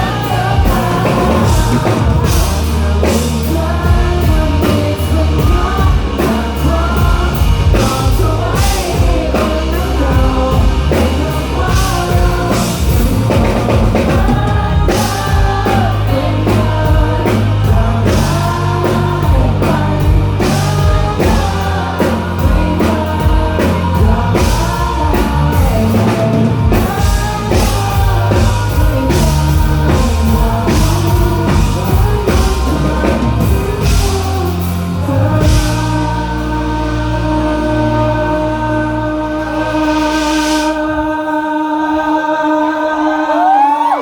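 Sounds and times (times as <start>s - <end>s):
live rock band playing: 0.0s - 41.8s
person singing: 0.0s - 44.0s.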